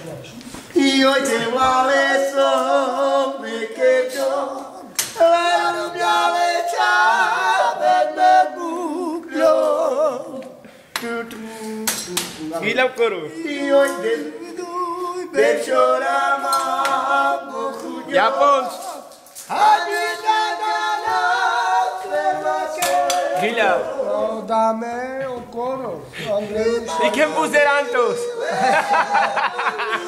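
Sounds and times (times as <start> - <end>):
men singing unaccompanied: 0.7 - 30.0.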